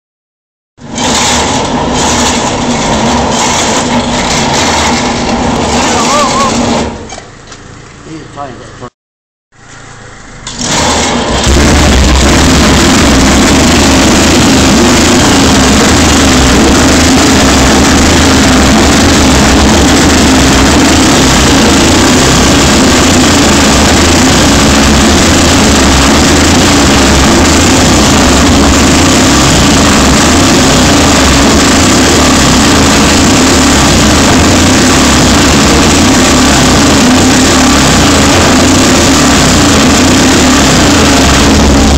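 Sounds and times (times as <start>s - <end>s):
motorcycle engine running: 0.8s - 8.9s, 9.6s - 41.9s.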